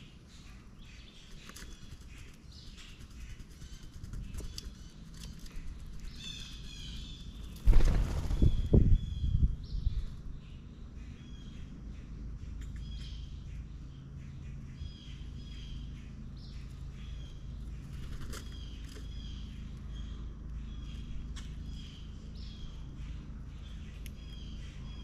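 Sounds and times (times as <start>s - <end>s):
bird chirping: 0.0s - 25.0s
steady low rumble: 0.0s - 25.0s.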